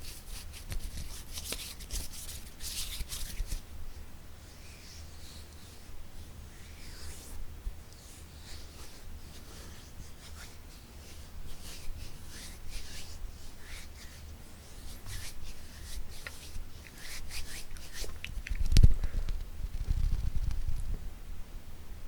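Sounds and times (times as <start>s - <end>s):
hands rubbing and brushing: 0.0s - 19.0s.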